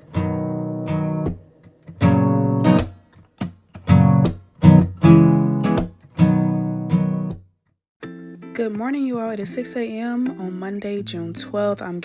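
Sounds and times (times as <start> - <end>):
acoustic guitar strumming chords: 0.0 - 3.0, 3.8 - 7.4, 8.0 - 12.0.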